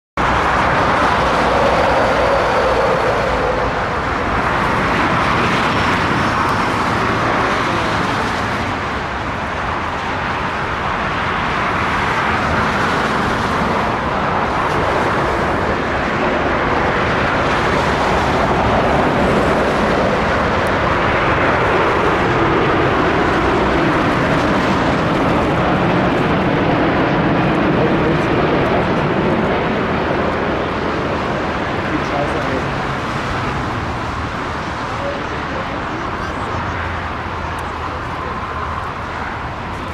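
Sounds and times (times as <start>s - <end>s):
jet engine rushing: 0.2s - 39.9s.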